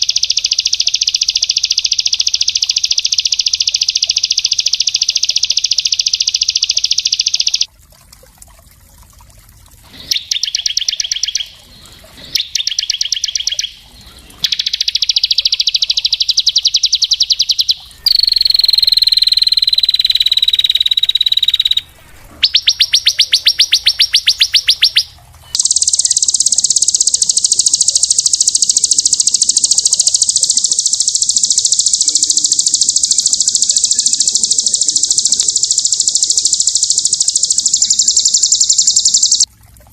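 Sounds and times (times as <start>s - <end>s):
songbird trilling: 0.0s - 7.7s, 10.0s - 11.6s, 12.2s - 39.5s.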